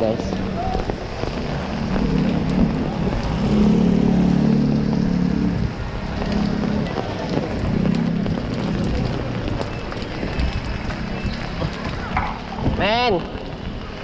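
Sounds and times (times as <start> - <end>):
rain: 0.0 - 14.0
vehicle engine humming: 0.0 - 14.0
wind: 0.0 - 14.0.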